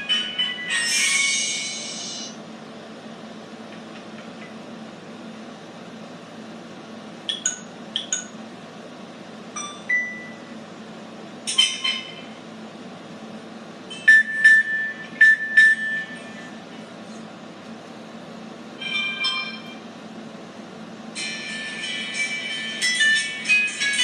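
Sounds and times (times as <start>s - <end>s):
steady room hum: 0.0s - 24.0s.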